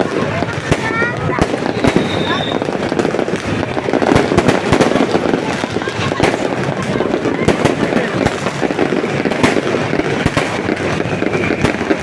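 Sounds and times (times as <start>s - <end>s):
fireworks bangs and pops: 0.0s - 12.0s
steady background din: 0.0s - 12.0s.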